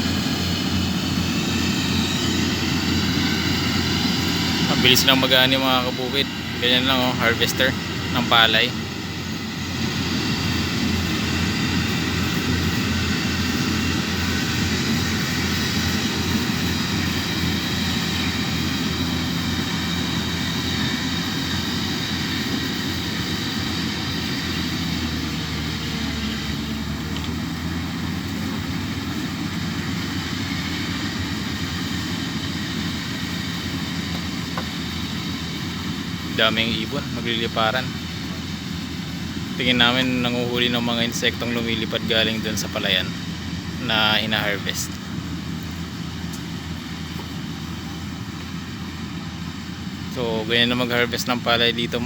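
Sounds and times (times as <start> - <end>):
combine harvester engine drone: 0.0 - 52.0
threshing machinery whirring: 0.0 - 52.0.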